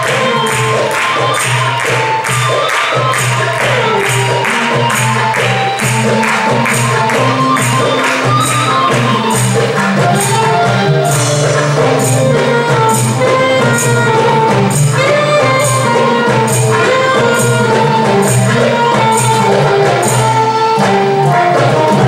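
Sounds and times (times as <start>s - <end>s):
percussion beat: 0.0s - 22.0s
saxophone melody: 0.0s - 22.0s.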